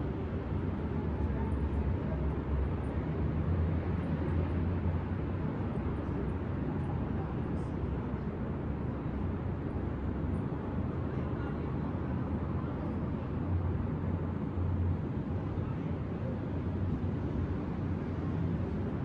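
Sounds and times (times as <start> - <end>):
distant city traffic rumble: 0.0 - 19.0.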